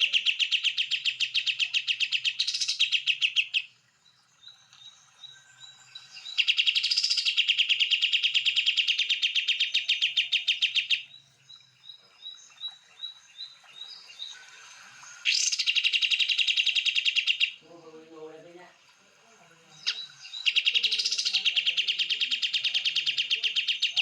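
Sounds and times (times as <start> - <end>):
songbird trilling: 0.0 - 3.8, 4.4 - 14.4, 15.2 - 18.6, 19.6 - 24.0
bird chirping: 0.0 - 24.0.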